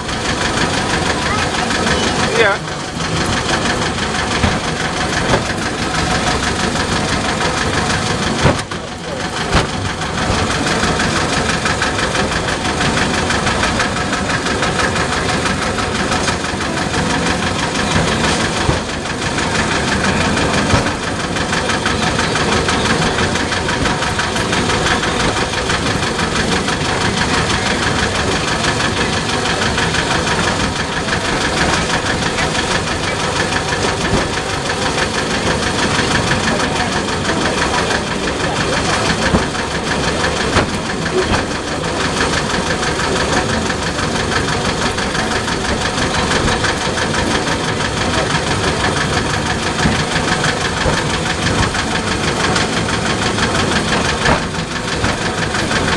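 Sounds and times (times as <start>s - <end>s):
small train engine running: 0.0s - 55.9s.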